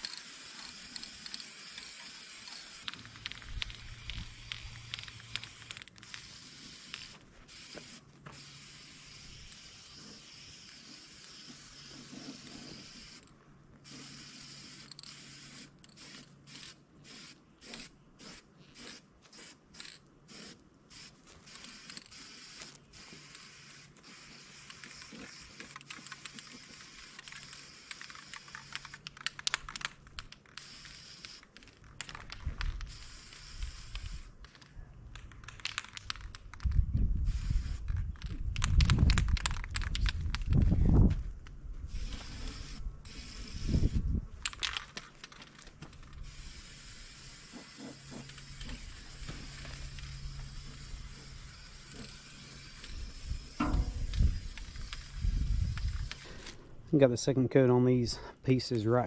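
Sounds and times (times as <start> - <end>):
spray paint hissing: 0.0 - 29.8, 30.5 - 31.5, 32.4 - 34.6, 37.2 - 40.7, 41.8 - 44.2, 45.9 - 56.5.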